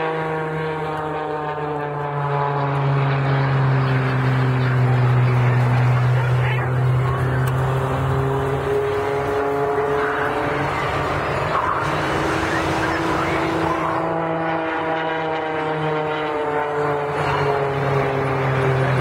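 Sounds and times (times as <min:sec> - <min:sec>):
biplane engine and propeller: 0:00.0 - 0:19.0.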